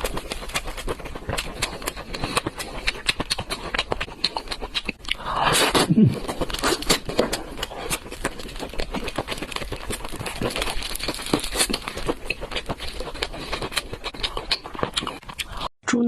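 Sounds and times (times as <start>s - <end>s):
chewing with clicks and smacks: 0.0s - 15.7s.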